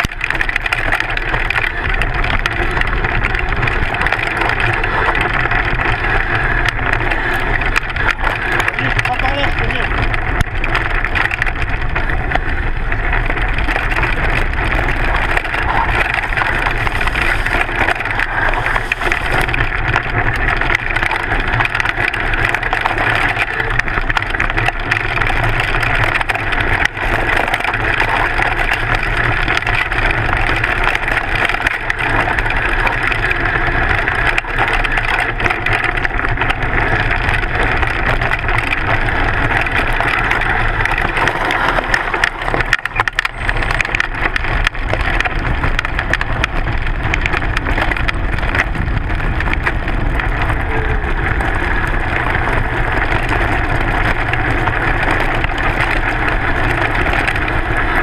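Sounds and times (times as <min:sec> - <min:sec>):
bike rattling over rough ground: 0:00.0 - 0:58.0.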